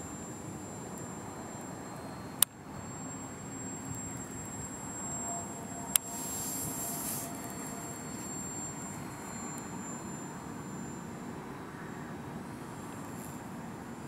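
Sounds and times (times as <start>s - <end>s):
model airplane motor drone: 0.0s - 14.0s.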